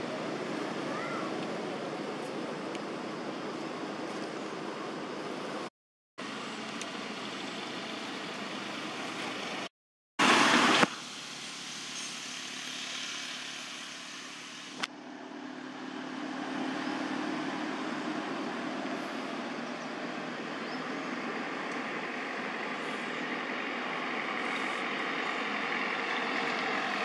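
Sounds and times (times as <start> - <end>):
engine hum: 0.0 - 27.0.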